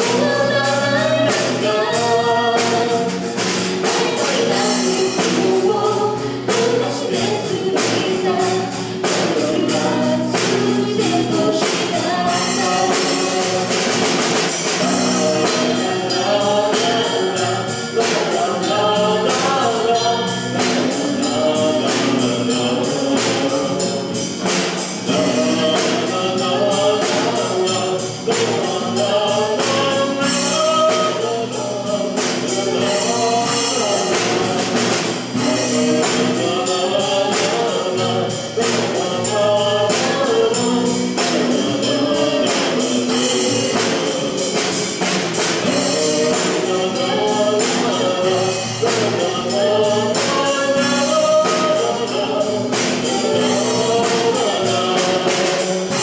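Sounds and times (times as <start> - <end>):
drums: 0.0 - 56.0
electric bass: 0.0 - 56.0
lead vocal: 0.0 - 56.0.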